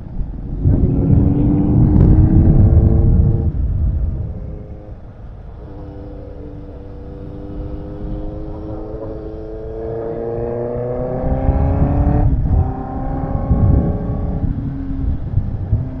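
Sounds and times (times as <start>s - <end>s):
wind rumble on microphone: 0.0s - 16.0s
motorcycle engine accelerating: 0.4s - 16.0s.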